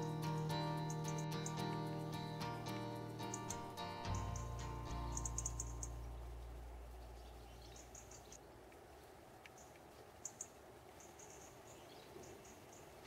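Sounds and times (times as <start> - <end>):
quiet hiss: 0.0 - 13.0
small birds chirping: 0.0 - 13.0.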